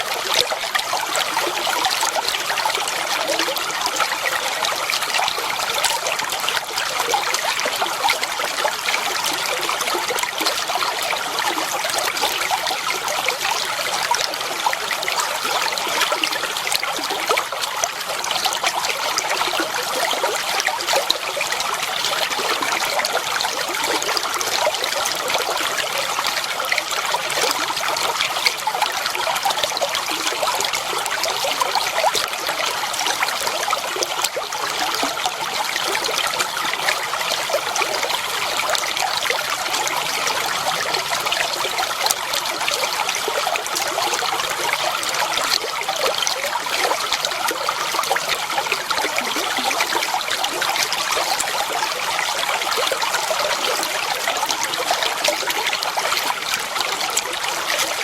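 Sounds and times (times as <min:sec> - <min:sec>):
water flowing and trickling: 0:00.0 - 0:58.0.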